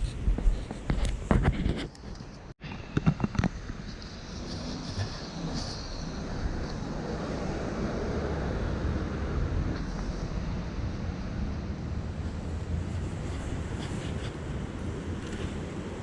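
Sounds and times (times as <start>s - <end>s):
street noise rumble and hiss: 0.0s - 16.0s.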